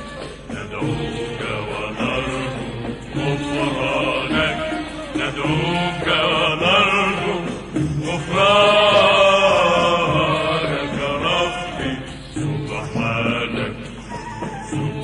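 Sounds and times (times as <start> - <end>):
voices chanting a melody: 0.0 - 15.0.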